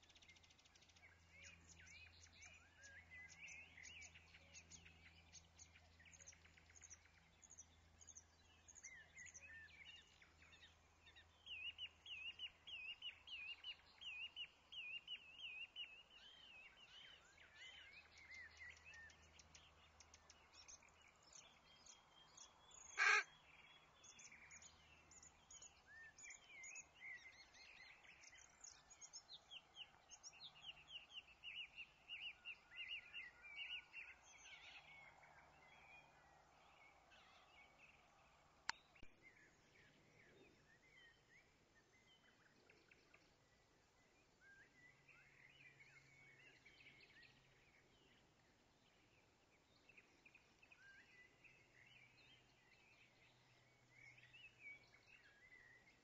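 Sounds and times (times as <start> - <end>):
small birds chirping and singing: 0.0 - 56.0.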